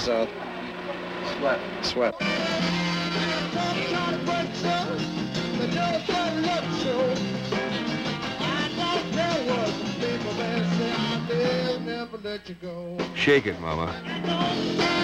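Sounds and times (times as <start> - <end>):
rock band with electric guitar: 0.0 - 12.0, 12.9 - 15.0.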